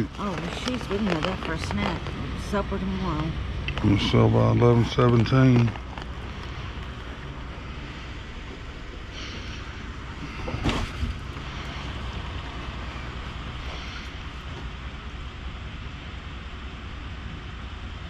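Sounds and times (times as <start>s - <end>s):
cardboard and plastic rustling: 0.0s - 14.8s
steady low rumble: 0.0s - 18.0s.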